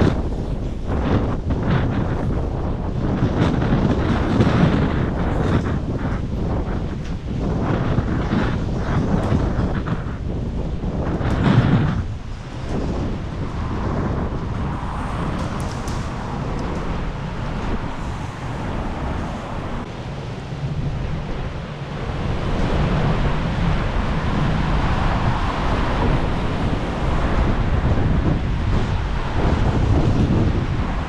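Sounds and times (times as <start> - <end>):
waves washing on shore: 0.0 - 31.0
wind buffeting microphone: 0.0 - 31.0.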